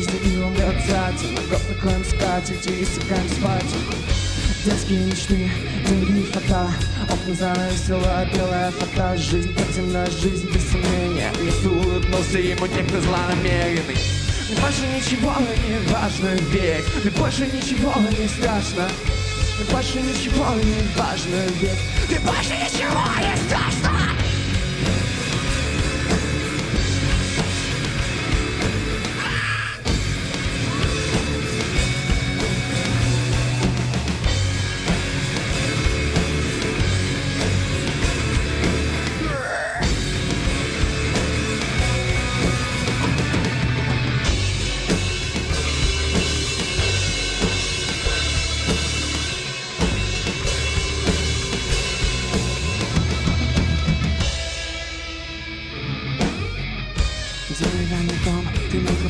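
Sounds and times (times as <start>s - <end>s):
drum beat: 0.0s - 54.8s, 57.0s - 59.0s
heavy rock band playing: 0.0s - 59.0s.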